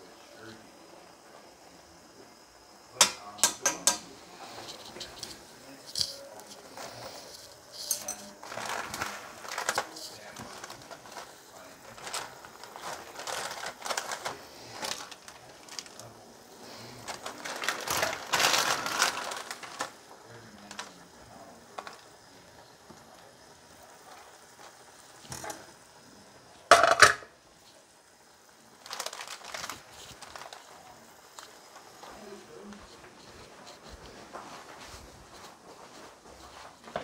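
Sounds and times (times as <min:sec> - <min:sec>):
plastic wrappers crinkling: 0:04.4 - 0:25.9, 0:28.4 - 0:37.0.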